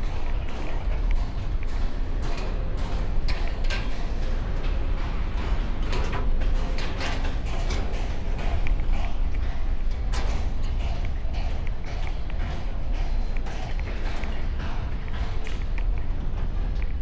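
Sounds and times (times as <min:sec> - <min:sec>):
metallic clanks on steel ladder: 0:00.1 - 0:14.4.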